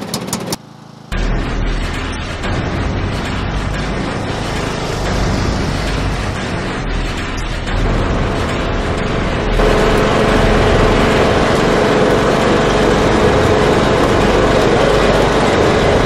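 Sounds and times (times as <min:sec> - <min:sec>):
riding lawn mower engine running: 0:00.0 - 0:16.0.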